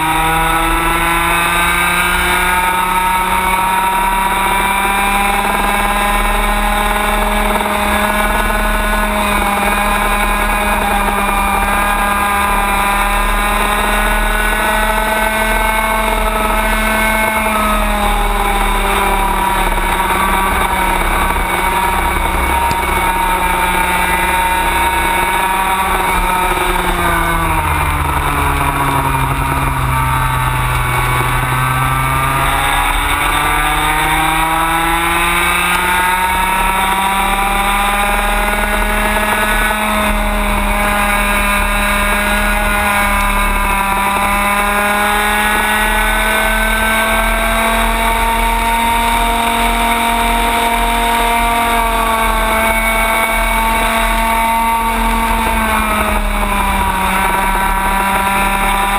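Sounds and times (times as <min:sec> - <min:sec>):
kart engine at high revs: 0:00.0 - 0:58.9.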